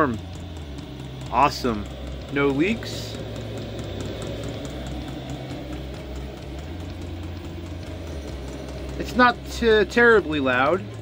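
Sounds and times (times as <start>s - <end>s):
air heater fan hum: 0.0s - 11.0s
fuel pump ticking: 0.0s - 11.0s.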